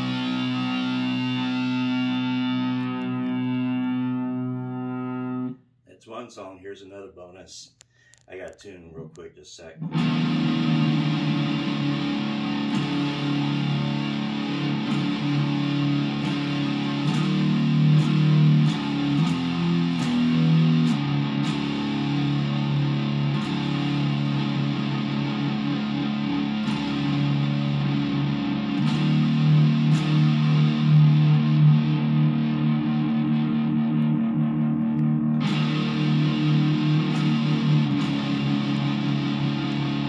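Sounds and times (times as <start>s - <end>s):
distorted electric guitar: 0.0s - 5.6s, 8.4s - 40.0s.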